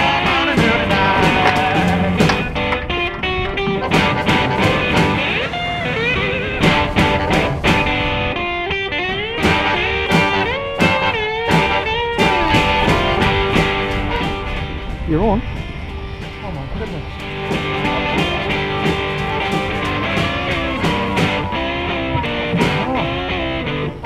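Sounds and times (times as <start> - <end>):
backing music: 0.0 - 24.0
guitar lead with bent notes: 0.0 - 24.0.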